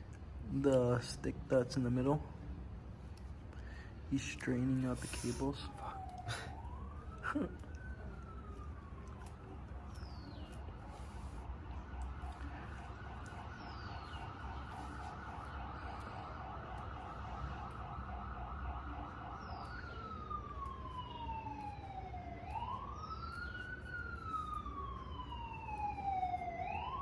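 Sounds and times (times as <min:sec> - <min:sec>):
emergency vehicle siren: 0:00.2 - 0:27.0.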